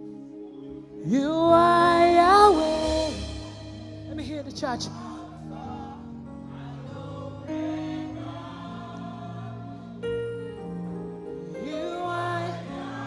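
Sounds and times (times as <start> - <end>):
choir and congregation singing: 0.0 - 13.0
steady held notes: 0.0 - 13.0.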